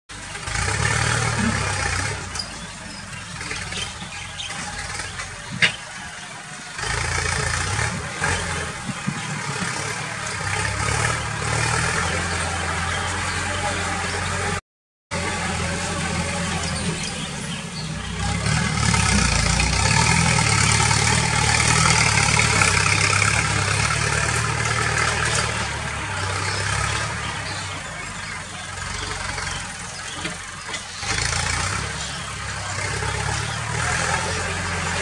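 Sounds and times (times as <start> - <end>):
tractor engine running: 0.1 - 35.0.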